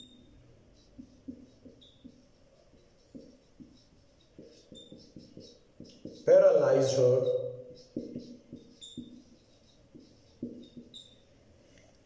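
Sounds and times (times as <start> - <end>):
marker squeaking on whiteboard: 0.0 - 11.3.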